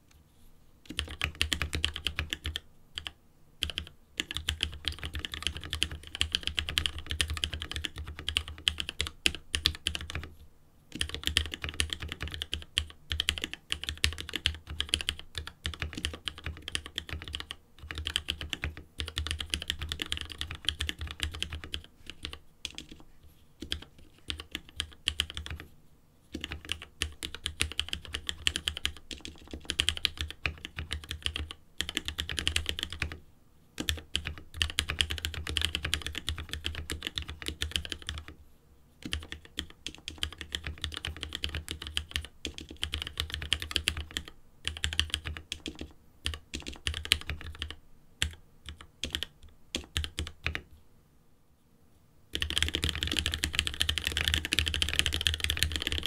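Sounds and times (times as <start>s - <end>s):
fast typing on mechanical keyboard: 0.9s - 10.3s, 10.9s - 25.7s, 26.3s - 33.2s, 33.8s - 38.4s, 39.0s - 50.6s, 52.3s - 56.0s.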